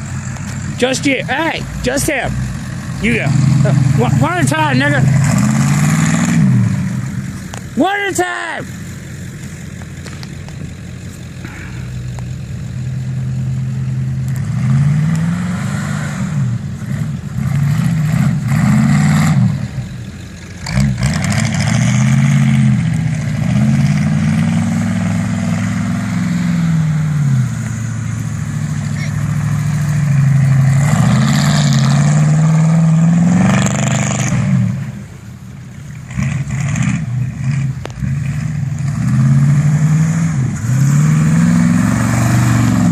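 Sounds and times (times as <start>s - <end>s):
truck engine revving: 0.0s - 42.9s.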